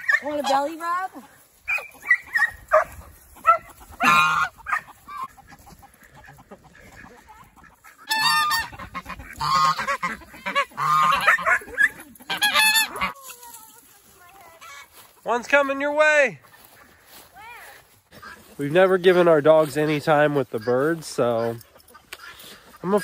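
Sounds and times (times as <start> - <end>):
geese honking: 0.0 - 13.4, 14.0 - 23.0.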